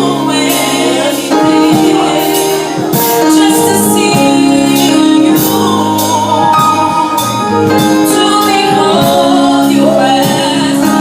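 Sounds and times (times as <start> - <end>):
live gospel band: 0.0 - 11.0
steady drum beat: 0.0 - 11.0.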